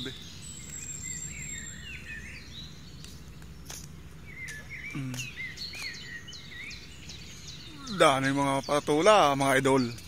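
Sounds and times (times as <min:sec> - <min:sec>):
low background hum: 0:00.0 - 0:10.0
small birds chirping: 0:00.0 - 0:10.0.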